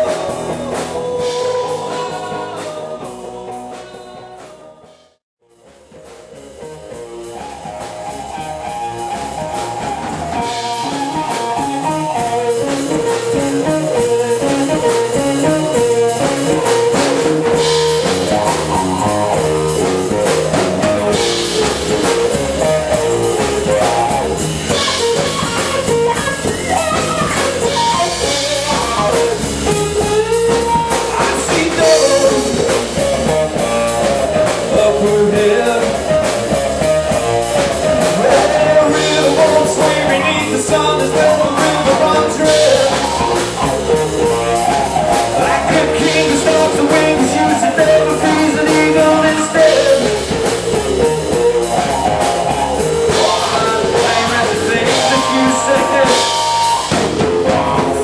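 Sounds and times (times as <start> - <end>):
blues-rock band playing: 0.0 - 58.0
harmonica lead line: 7.0 - 58.0.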